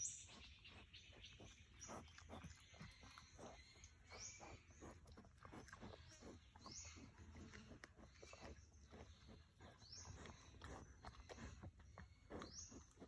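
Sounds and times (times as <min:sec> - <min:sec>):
wild boar grunting and scuffling: 0:00.0 - 0:13.0.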